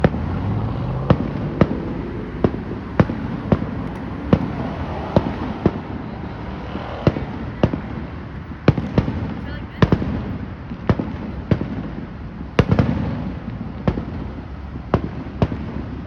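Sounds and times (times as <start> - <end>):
fireworks booming: 0.0 - 16.0
fireworks rumble and crackle: 0.0 - 16.0.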